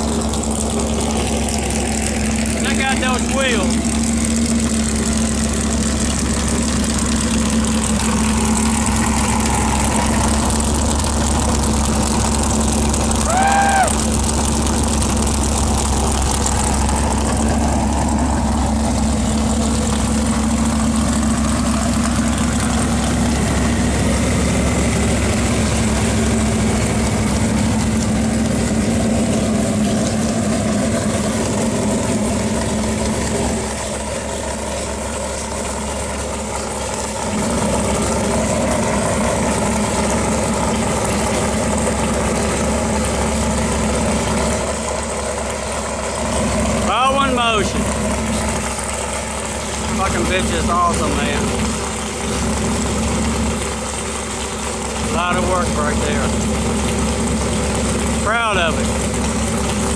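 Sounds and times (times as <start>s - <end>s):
v-eight engine idling: 0.0s - 59.9s.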